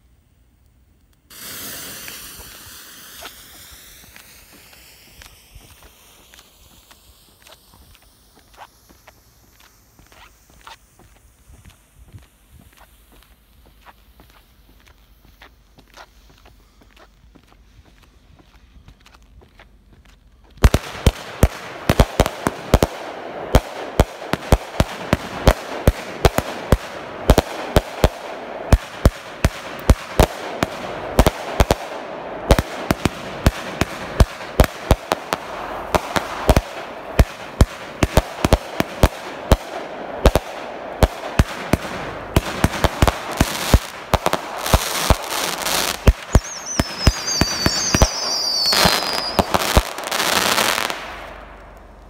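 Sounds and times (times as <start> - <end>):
fireworks hiss and crackle: 0.0 - 52.0
fireworks reports: 1.3 - 52.0.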